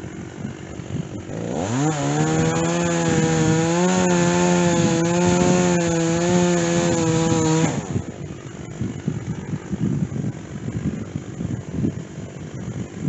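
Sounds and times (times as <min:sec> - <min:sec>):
chainsaw cutting wood: 0:00.0 - 0:11.8.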